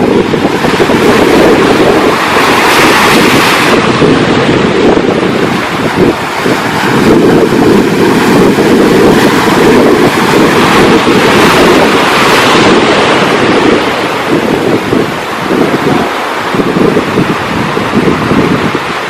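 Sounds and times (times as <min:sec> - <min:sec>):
sea surf: 0:00.0 - 0:19.0
wind buffeting microphone: 0:00.0 - 0:19.0.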